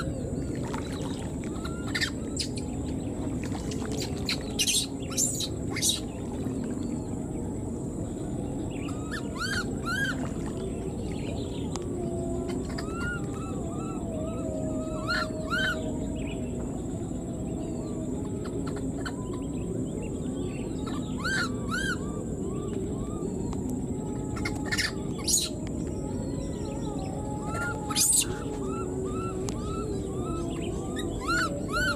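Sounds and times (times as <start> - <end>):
faint high-pitched whine: 0.0 - 31.9
outdoor background noise: 0.0 - 31.9.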